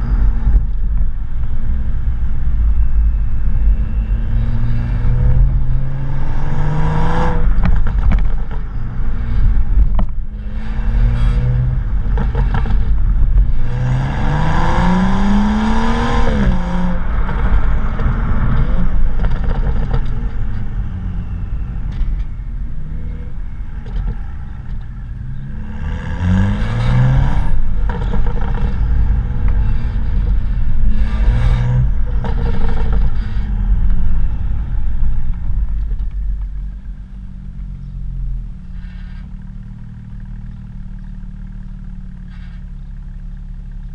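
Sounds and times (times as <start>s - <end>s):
car exhaust revving: 0.0s - 43.9s.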